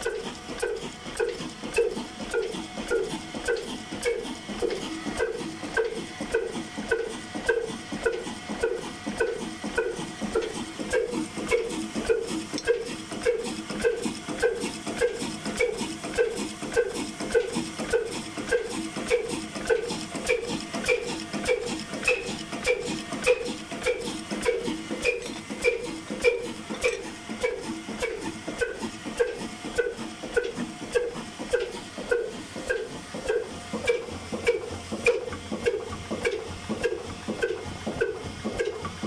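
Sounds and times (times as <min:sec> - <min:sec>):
diesel engine chugging: 0:00.0 - 0:39.0.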